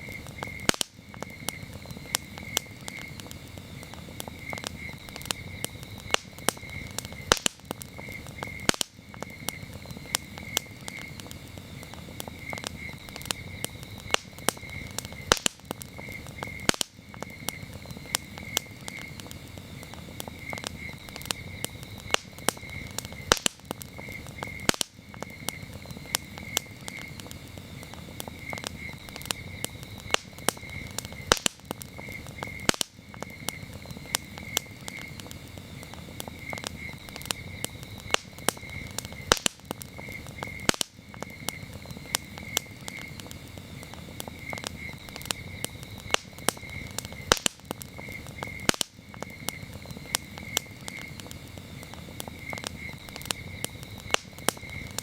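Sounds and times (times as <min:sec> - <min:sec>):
campfire crackling and popping: 0:00.0 - 0:55.0
crickets trilling: 0:00.0 - 0:55.0.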